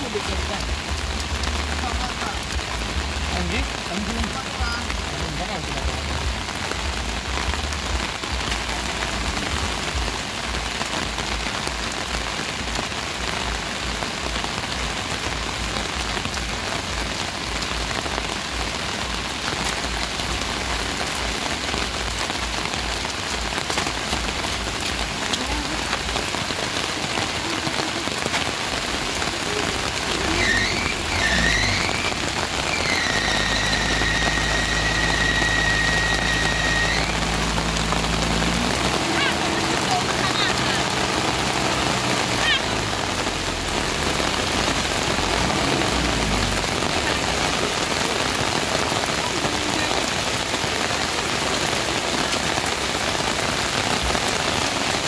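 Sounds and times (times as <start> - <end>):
low engine hum: 0.0 - 50.2
steady rain hiss: 0.0 - 55.0.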